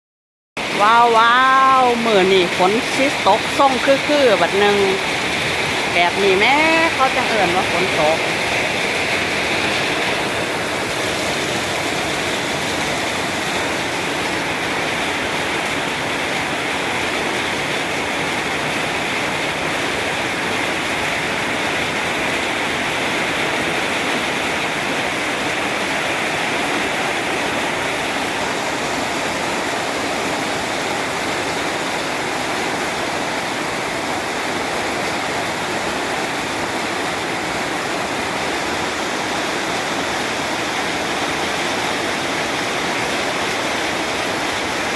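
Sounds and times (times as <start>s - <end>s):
heavy rain pouring: 0.6s - 44.9s.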